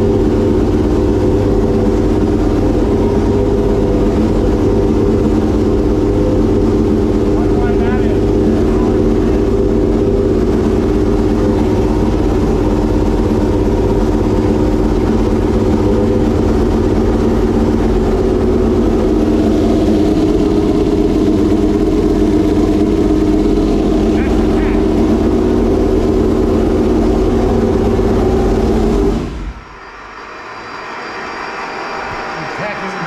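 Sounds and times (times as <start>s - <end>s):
race engine idling: 0.0s - 33.0s.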